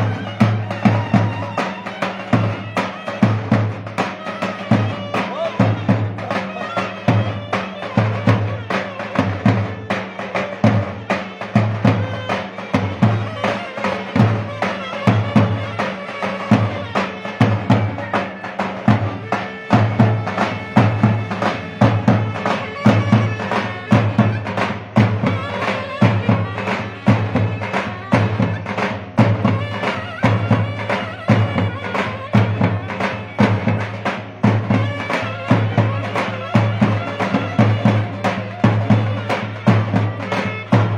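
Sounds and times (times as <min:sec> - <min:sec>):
shrill reedy double-reed melody: 0:00.0 - 0:34.1, 0:34.7 - 0:40.9
steady drum beat: 0:00.0 - 0:40.9.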